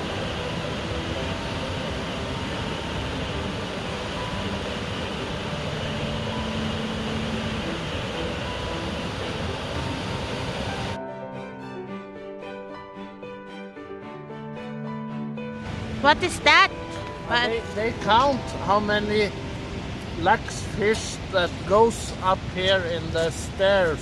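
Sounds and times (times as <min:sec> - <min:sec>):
faint music: 0:00.0 - 0:11.0, 0:15.6 - 0:24.0
waterfall rushing: 0:00.0 - 0:11.0, 0:15.6 - 0:24.0.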